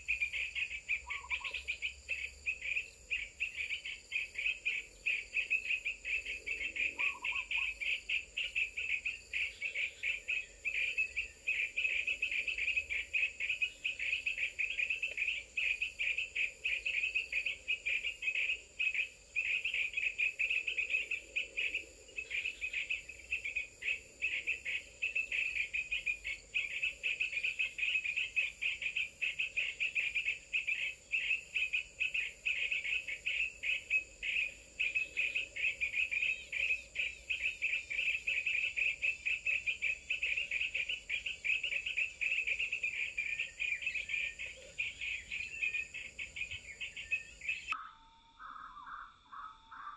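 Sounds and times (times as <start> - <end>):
insects chirping in a trill: 0.0 - 49.9.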